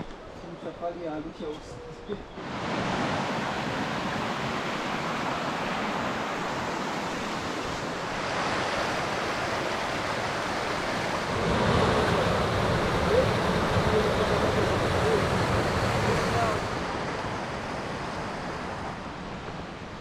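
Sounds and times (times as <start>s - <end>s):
waterfall rushing: 2.4s - 18.8s.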